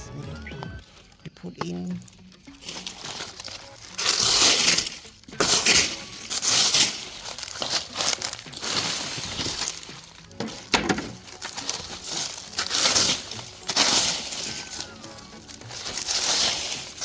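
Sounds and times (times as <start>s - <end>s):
dry leaves crunching and rustling: 0.8s - 17.0s.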